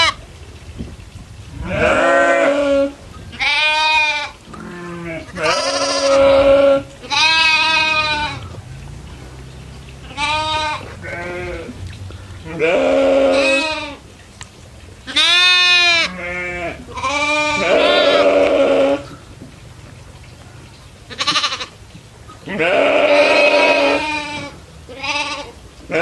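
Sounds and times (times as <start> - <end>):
goats bleating: 1.6 - 14.0, 15.0 - 19.2, 21.1 - 21.8, 22.4 - 26.0.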